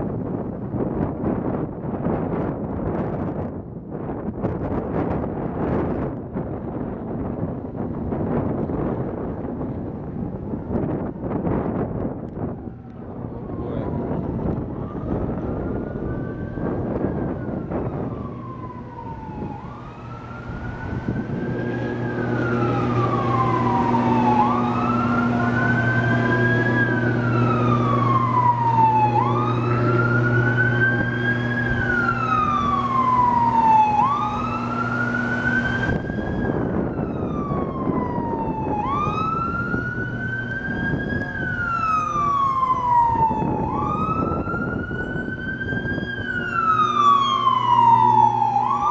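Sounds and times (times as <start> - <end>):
fire truck siren wailing: 4.5 - 48.9
steady low hum: 6.4 - 48.9.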